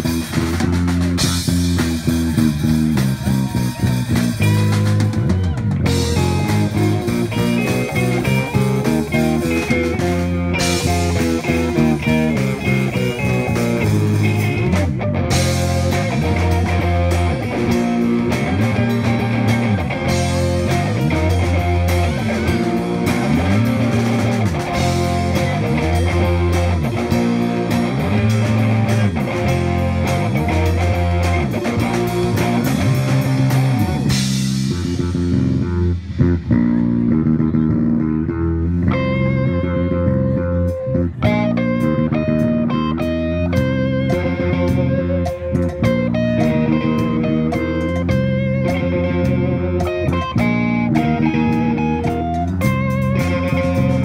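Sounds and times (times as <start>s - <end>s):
bass guitar repeating a figure: 0.0s - 54.0s
drum kit beat: 0.0s - 54.0s
electric guitars playing: 0.0s - 54.0s.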